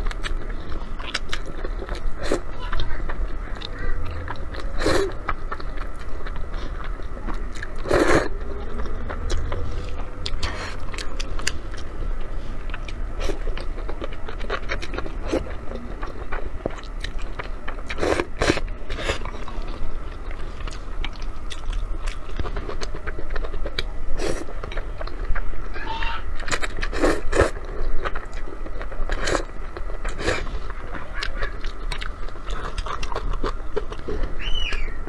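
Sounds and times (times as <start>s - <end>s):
wet chewing: 0.0s - 35.0s.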